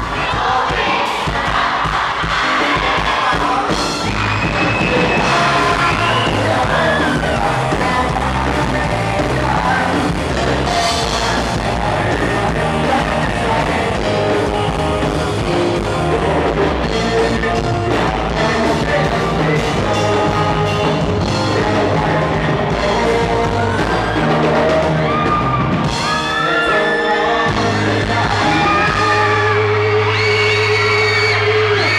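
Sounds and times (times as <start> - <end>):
live rock band playing: 0.0 - 31.9
person singing: 0.0 - 31.9.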